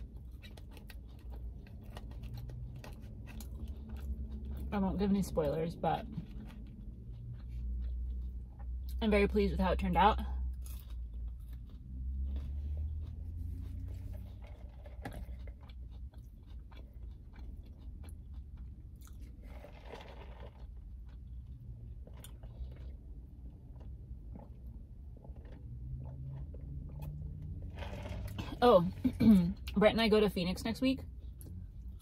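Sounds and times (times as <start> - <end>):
chewing food: 0.0 - 29.8.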